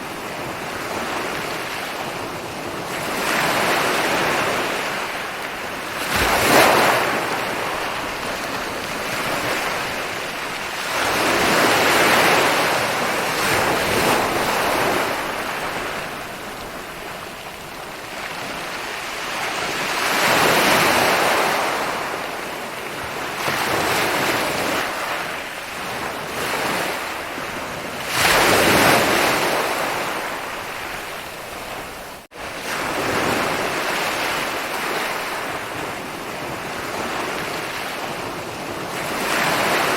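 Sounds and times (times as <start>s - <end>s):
ocean waves breaking on a beach: 0.0s - 39.9s.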